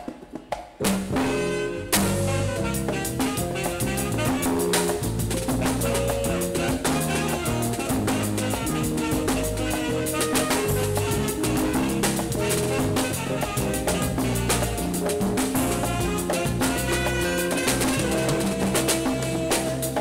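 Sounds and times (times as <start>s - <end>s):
drum kit beat: 0.0s - 20.0s
jazz band playing: 0.8s - 20.0s.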